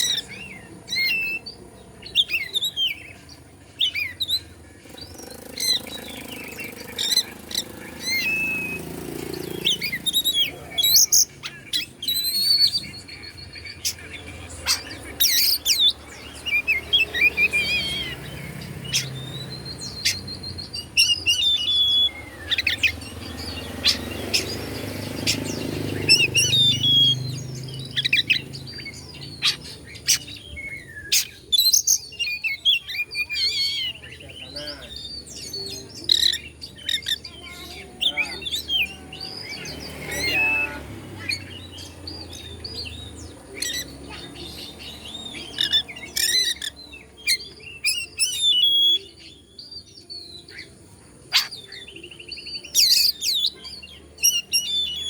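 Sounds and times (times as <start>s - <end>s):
bird singing chirps and trills: 0.0s - 55.0s.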